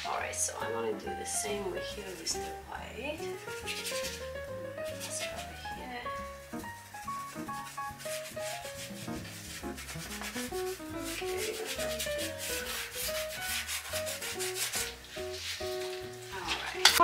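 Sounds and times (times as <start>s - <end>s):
soft background music: 0.0s - 17.0s
paintbrush scrubbing on canvas: 1.4s - 16.2s.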